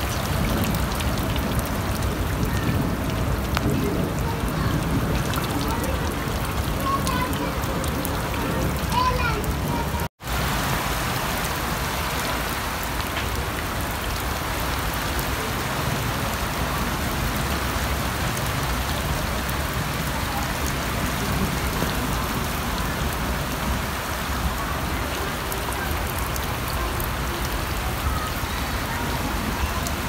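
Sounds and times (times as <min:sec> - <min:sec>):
heavy rain on rooftops: 0:00.0 - 0:30.0.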